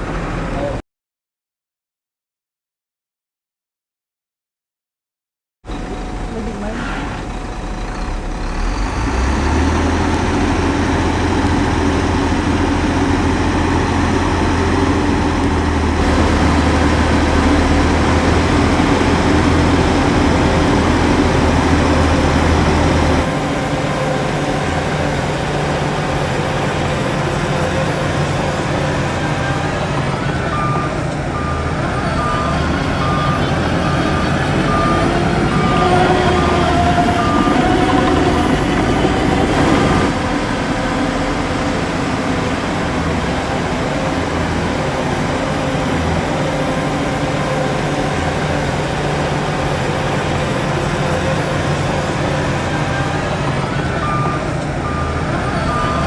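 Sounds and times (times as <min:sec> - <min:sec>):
heavy diesel machinery engine drone: 0:00.0 - 0:00.8, 0:05.7 - 0:56.0
reversing alarm beeping: 0:05.7 - 0:56.0.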